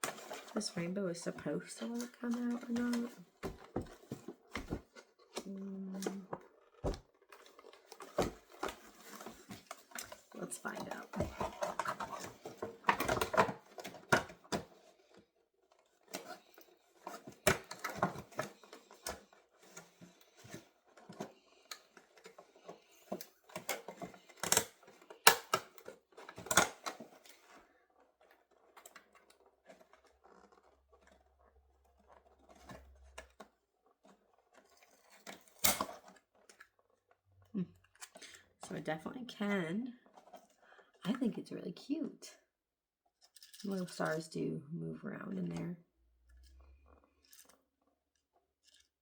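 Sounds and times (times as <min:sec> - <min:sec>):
plastic packaging clicking and rustling: 0:00.0 - 0:38.8, 0:40.0 - 0:41.0, 0:46.2 - 0:49.0.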